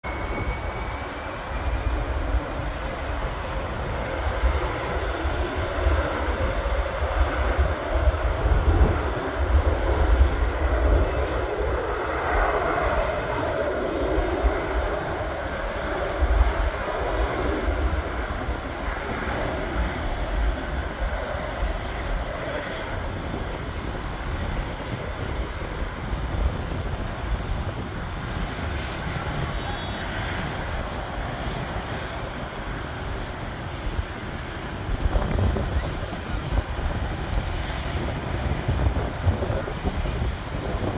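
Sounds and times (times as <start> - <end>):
jet engines at takeoff power: 0.0 - 40.9.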